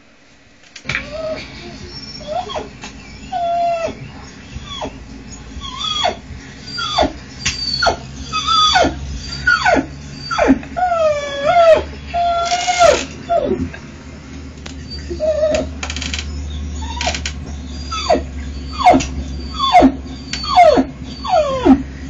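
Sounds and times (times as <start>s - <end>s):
steady low hum: 0.0s - 22.0s
dog whining and whimpering: 0.9s - 13.8s, 14.7s - 22.0s.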